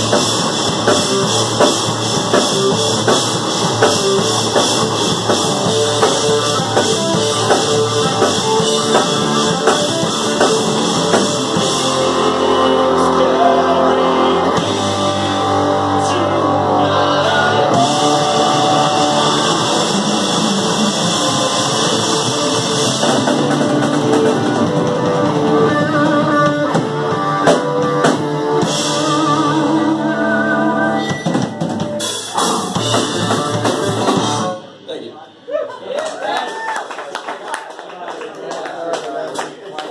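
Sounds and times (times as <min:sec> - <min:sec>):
drum kit beat: 0:00.0 - 0:30.2, 0:31.1 - 0:34.8
electric guitar: 0:00.0 - 0:34.9
bass guitar: 0:00.0 - 0:35.5
live rock band playing: 0:00.0 - 0:35.5.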